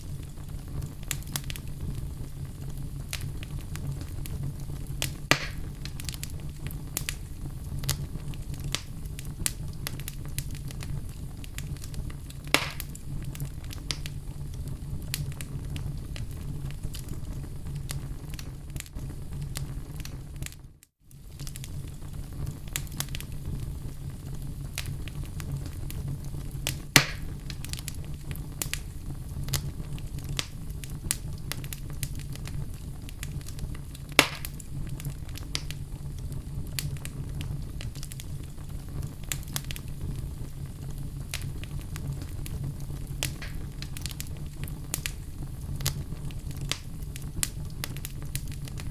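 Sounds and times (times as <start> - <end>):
low steady rumble: 0.0 - 20.4, 21.2 - 48.9
wood fire crackling: 0.0 - 48.9.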